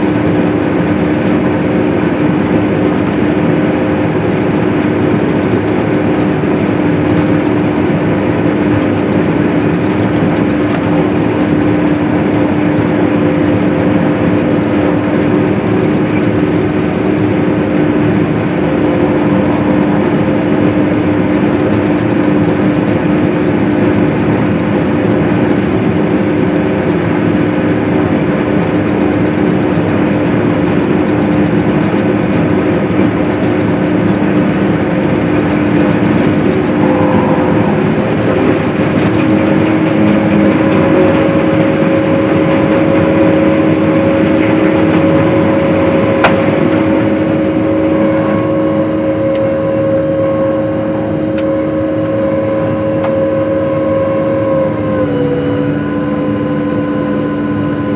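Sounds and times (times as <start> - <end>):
steady hum: 0.0 - 27.0, 30.9 - 57.9
hay swather machine drone: 0.0 - 57.9.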